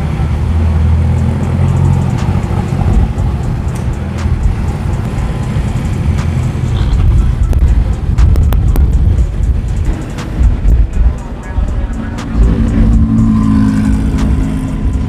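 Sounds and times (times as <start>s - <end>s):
car engines rumbling: 0.0s - 15.0s
music playing: 1.0s - 15.0s.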